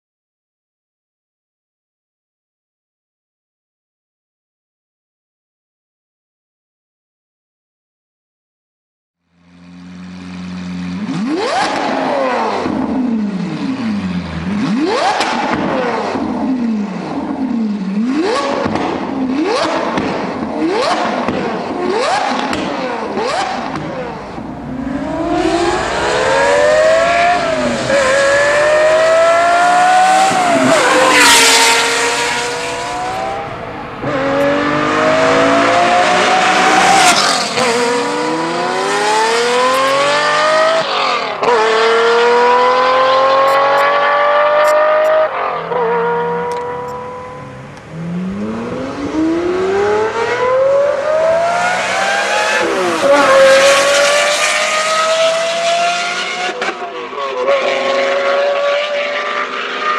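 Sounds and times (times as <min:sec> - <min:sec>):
car engine revving hard: 0:10.3 - 0:59.9.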